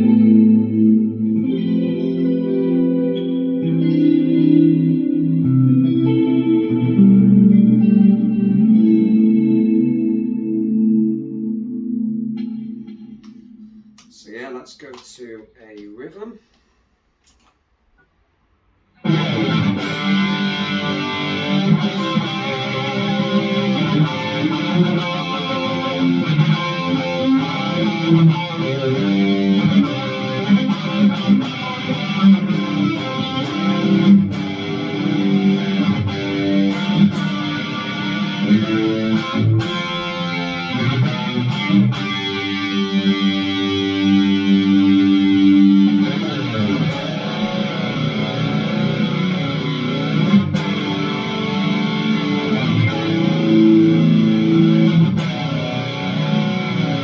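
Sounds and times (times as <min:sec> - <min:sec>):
distorted electric guitar: 0:00.0 - 0:15.9, 0:19.0 - 0:57.0.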